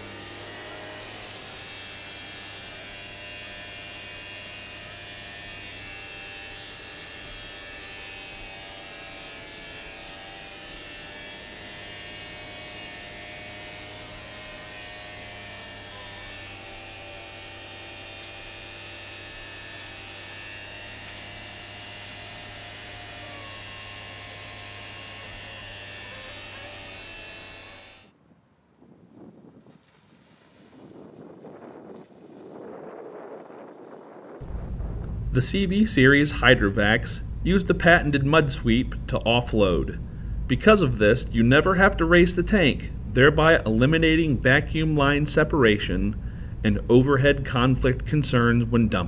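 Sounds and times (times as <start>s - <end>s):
vacuum system drone and whine: 0.0s - 28.1s, 33.2s - 49.0s.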